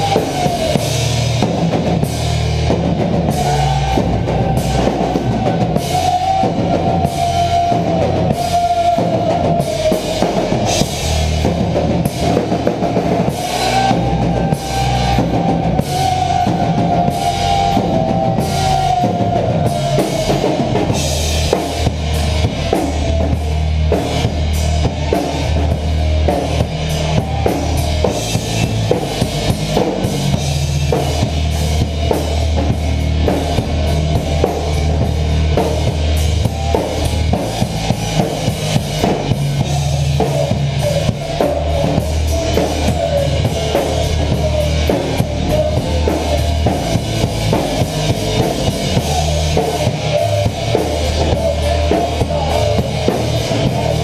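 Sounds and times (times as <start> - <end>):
rock drum kit: 0.0 - 54.0.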